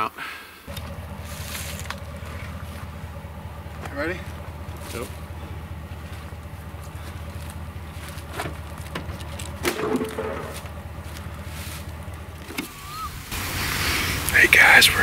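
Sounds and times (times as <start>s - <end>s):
pickup truck idling: 0.7s - 15.0s.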